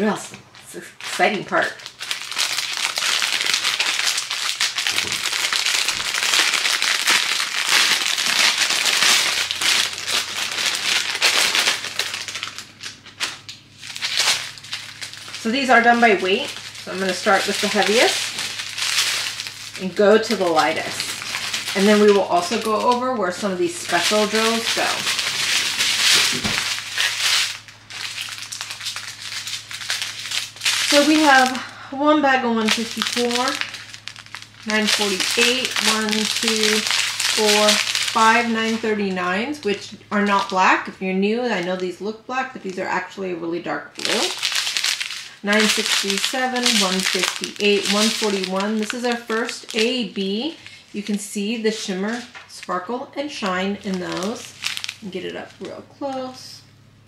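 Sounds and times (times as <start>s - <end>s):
plastic packaging crinkling: 0.0s - 42.9s, 43.9s - 56.8s.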